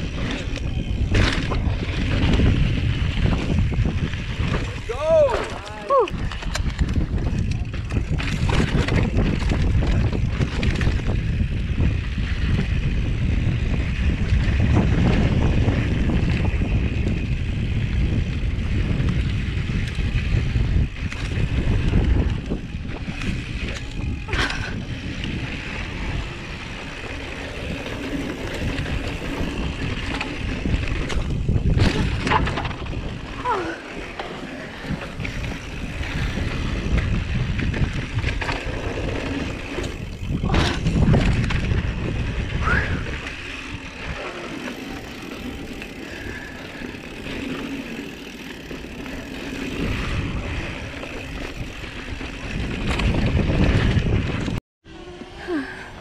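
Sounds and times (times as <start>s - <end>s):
bike rattling over bumps: 0.0s - 56.0s
wind rush on microphone: 0.0s - 56.0s.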